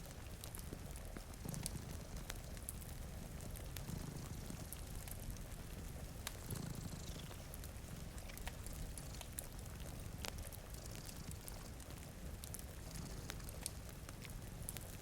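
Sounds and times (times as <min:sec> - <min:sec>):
cat purring: 0:00.0 - 0:15.0
fire crackling: 0:00.0 - 0:15.0
soft rain: 0:00.0 - 0:15.0.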